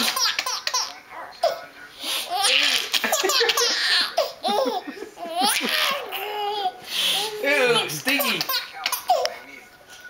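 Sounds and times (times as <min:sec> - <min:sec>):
baby laughing: 0:00.0 - 0:01.6, 0:02.3 - 0:09.4.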